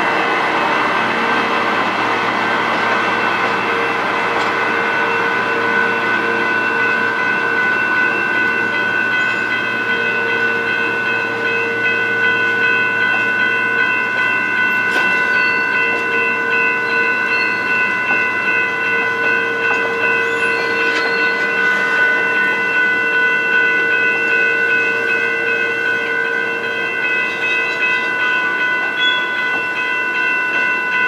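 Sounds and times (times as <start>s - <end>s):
train cars rolling past: 0.0s - 31.0s.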